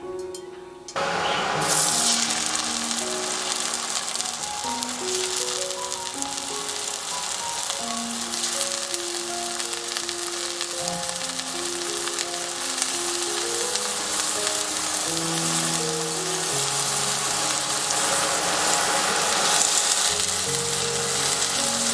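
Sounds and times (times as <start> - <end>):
slow melody of held notes: 0.0 - 21.9
food sizzling in a pan: 1.0 - 21.9.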